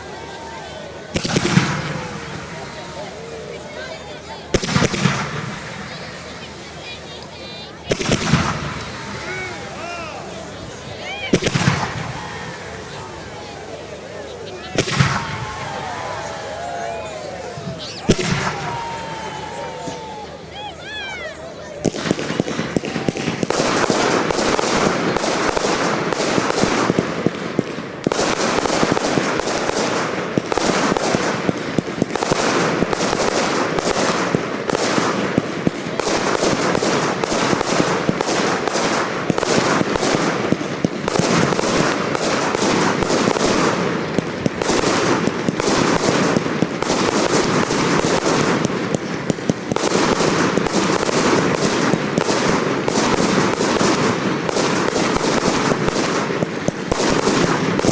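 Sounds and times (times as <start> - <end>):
fireworks banging: 0.0 - 57.9.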